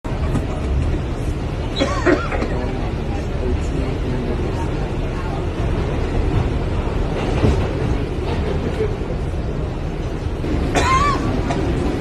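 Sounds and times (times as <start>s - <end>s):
train rumble from inside: 0.0s - 12.0s.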